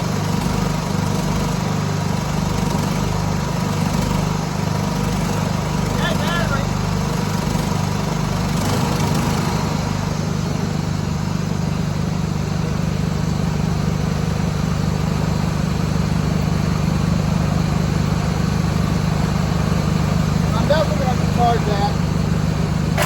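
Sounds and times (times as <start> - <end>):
lawn tractor engine running: 0.0 - 23.0.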